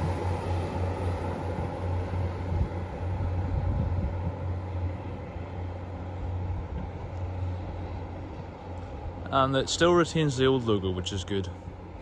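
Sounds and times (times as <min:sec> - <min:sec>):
rushing noise: 0:00.0 - 0:12.0
train engine drone: 0:00.0 - 0:12.0.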